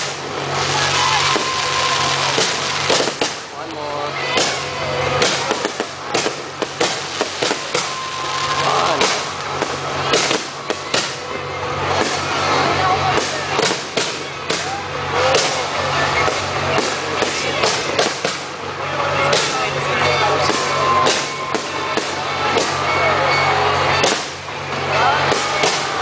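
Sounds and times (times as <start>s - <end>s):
crowd voices: 0.0s - 26.0s
fireworks bangs and crackles: 0.0s - 26.0s.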